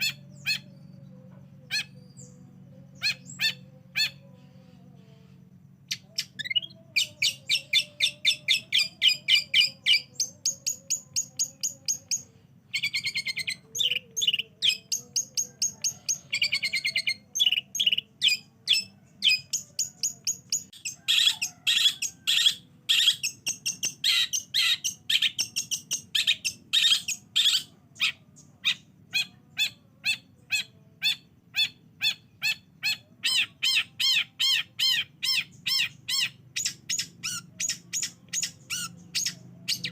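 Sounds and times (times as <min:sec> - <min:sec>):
harsh bird chattering: 0:00.0 - 0:04.4, 0:05.8 - 0:39.9
bird trills: 0:00.0 - 0:39.9.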